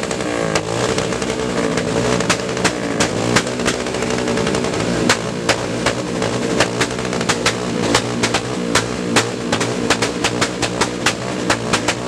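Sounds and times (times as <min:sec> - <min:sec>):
exhaust cracks: 0:00.0 - 0:12.0
motorcycle engine revving: 0:00.0 - 0:12.0.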